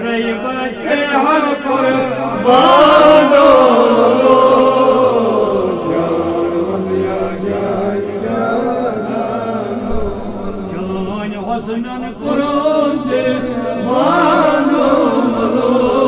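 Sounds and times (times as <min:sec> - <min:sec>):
person chanting devotional poem: 0:00.0 - 0:16.0.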